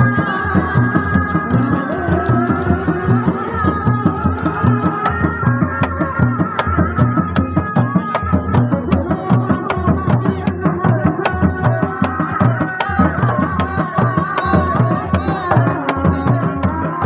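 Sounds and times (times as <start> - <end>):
drums pounding fast rhythm: 0.0 - 17.0.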